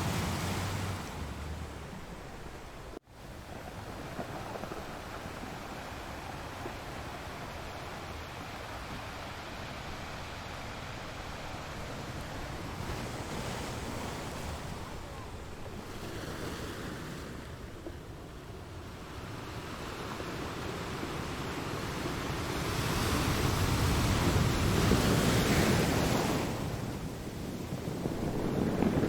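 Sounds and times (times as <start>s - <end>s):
ocean waves washing on shore: 0.0s - 29.0s.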